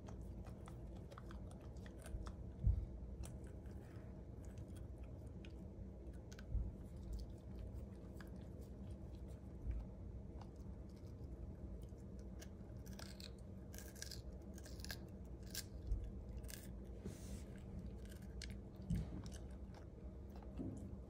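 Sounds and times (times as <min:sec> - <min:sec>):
low steady hum: 0:00.0 - 0:21.0
puppy chewing crunchy pepper: 0:00.0 - 0:21.0.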